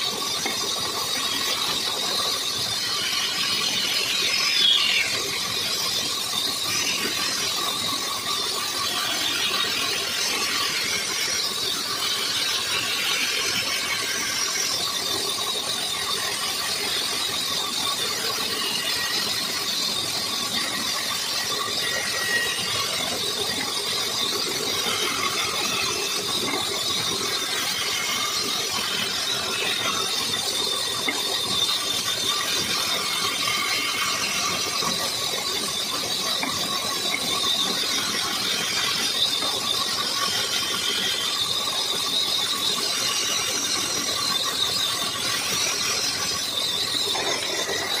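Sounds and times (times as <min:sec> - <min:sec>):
band saw cutting wood: 0:00.0 - 0:48.0.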